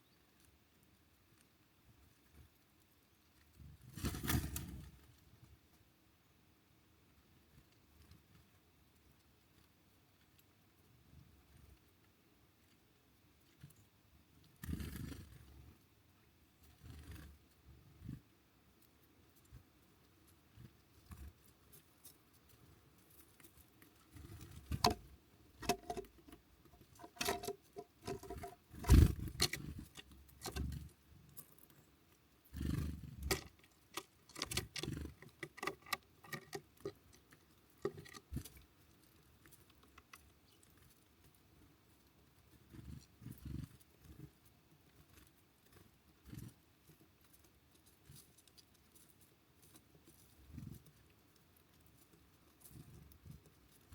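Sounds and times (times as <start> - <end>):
birds pecking at a feeder: 0.0 - 53.9.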